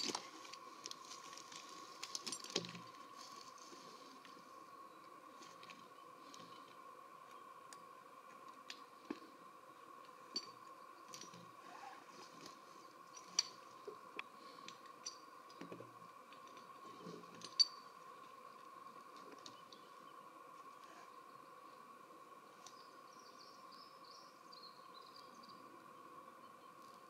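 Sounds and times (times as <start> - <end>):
faint high hum: 0.0 - 27.0.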